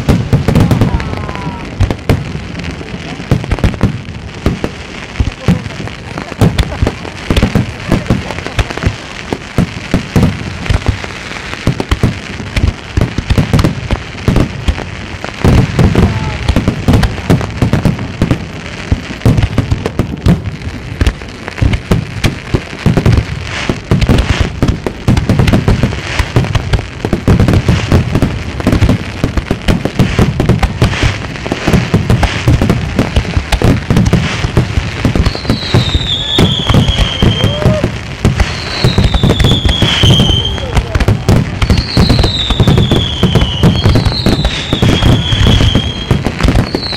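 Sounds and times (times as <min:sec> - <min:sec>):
fireworks booming: 0:00.0 - 0:46.9
fireworks crackle: 0:00.0 - 0:46.9.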